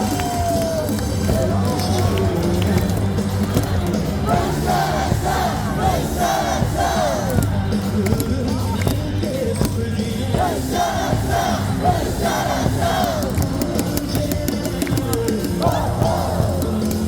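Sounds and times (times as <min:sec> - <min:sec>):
amplified stadium music: 0:00.0 - 0:17.0
crowd chanting in unison: 0:01.3 - 0:17.0.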